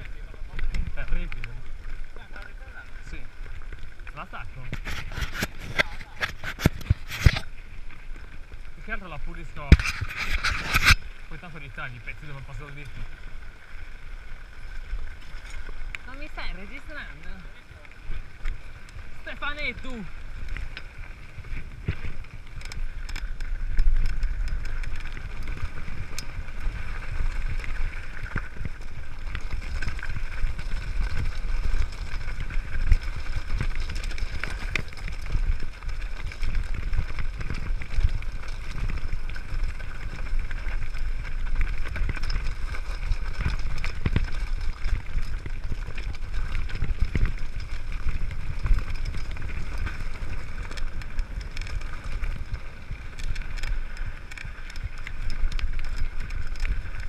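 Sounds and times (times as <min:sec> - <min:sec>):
bike frame rattling: 0:00.0 - 0:57.0
bike tyres on gravel: 0:00.0 - 0:57.0.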